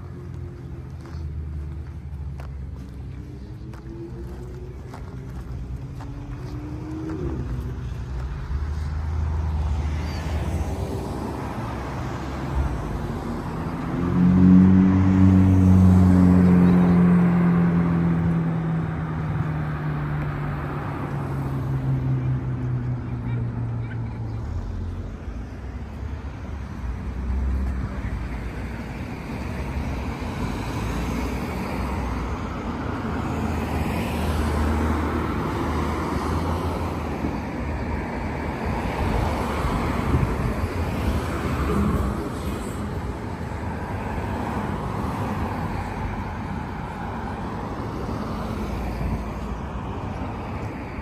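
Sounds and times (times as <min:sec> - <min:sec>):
road traffic passing: 0:00.0 - 0:51.0.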